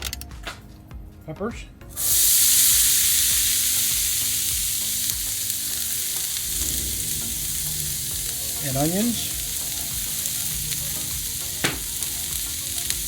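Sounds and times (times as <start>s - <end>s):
peppers sizzling on a griddle: 1.9s - 13.0s.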